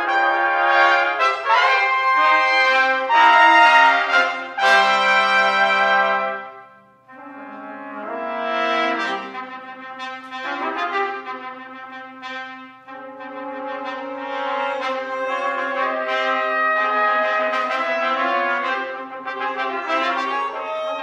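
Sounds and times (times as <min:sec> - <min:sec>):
trumpet ensemble playing chords: 0:00.0 - 0:21.0.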